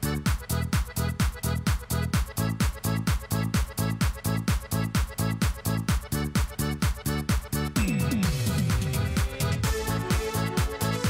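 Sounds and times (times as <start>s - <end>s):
music with kick-drum beat: 0.0s - 11.0s.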